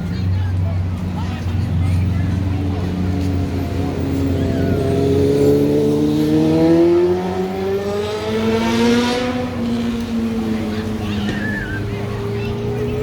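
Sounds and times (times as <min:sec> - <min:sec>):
vehicle engine accelerating: 0:00.0 - 0:13.0.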